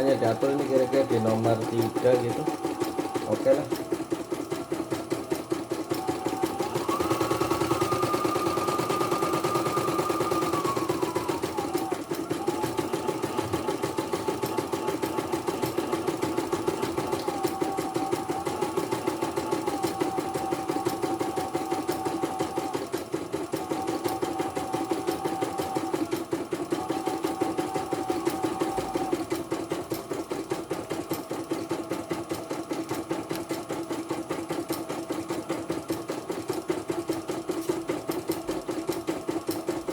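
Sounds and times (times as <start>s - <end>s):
embroidery machine needle hammering: 0.0s - 39.9s.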